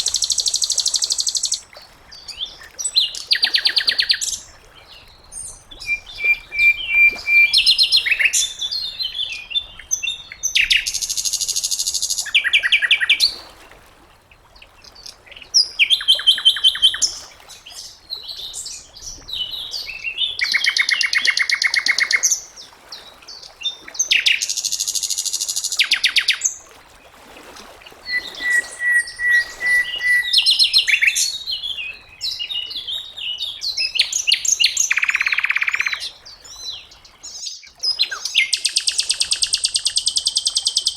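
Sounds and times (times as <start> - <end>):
songbird singing: 0.0 - 13.3, 14.6 - 26.5, 28.0 - 40.9.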